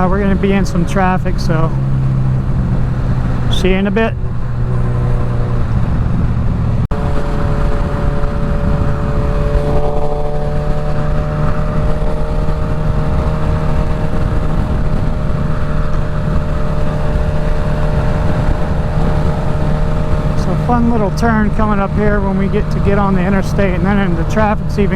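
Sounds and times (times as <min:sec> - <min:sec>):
motorcycle engine cruising: 0:00.0 - 0:24.9
wind rush: 0:00.0 - 0:24.9.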